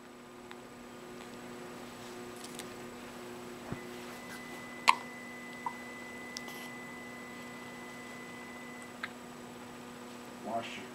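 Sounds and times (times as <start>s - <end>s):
electrical hum: 0.0s - 10.9s.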